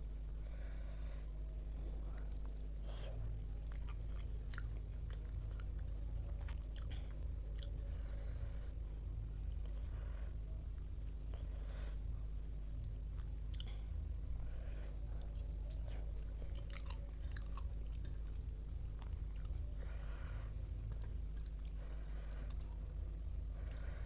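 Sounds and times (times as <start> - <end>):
low hum: 0.0 - 24.0
soft breaths: 0.0 - 24.0
person chewing food: 2.0 - 12.0, 12.6 - 24.0.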